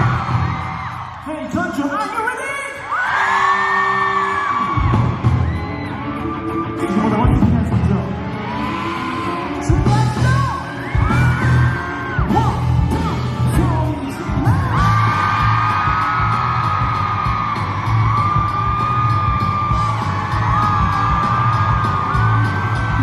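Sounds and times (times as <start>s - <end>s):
audience yells and whoops: 0.0s - 7.2s, 8.1s - 23.0s
live pop-rock band music: 4.0s - 23.0s.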